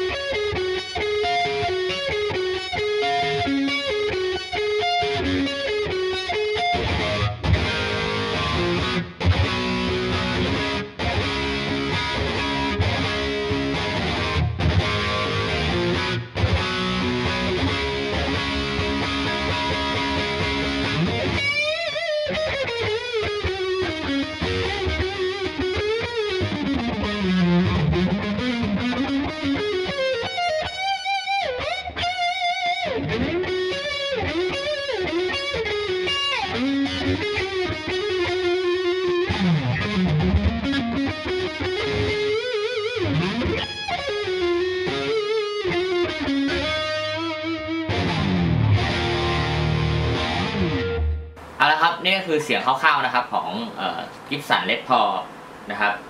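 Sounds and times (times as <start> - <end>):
distorted electric guitar lead: 0.0 - 56.0
electric guitar chords ringing: 0.0 - 56.0.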